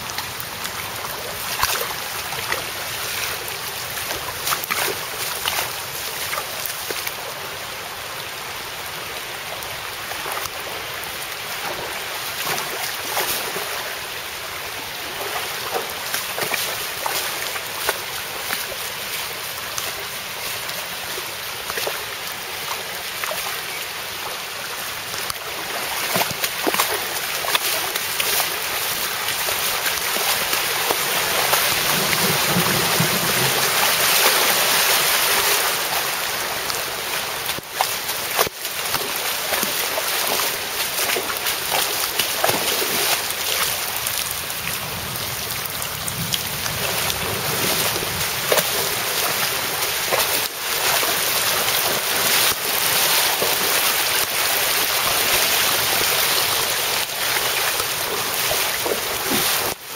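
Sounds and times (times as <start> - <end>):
floodwater rushing and splashing: 0.0 - 59.9.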